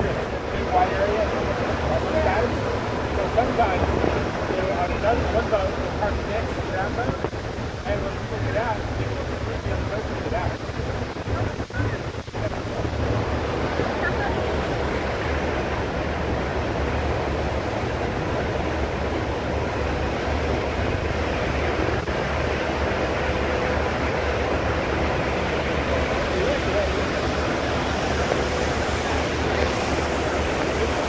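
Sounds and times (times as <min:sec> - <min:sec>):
ferry engine rumbling: 0:00.0 - 0:31.0
propeller wake rushing: 0:00.0 - 0:31.0.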